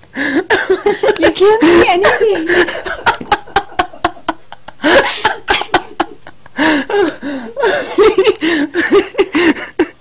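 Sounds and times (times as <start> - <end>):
people snickering and giggling: 0.5 - 10.0.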